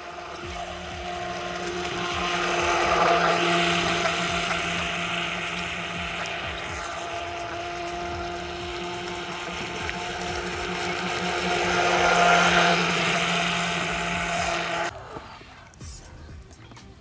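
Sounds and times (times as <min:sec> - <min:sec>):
electric motor whining: 0:00.0 - 0:15.3
water spray hissing: 0:00.0 - 0:16.7.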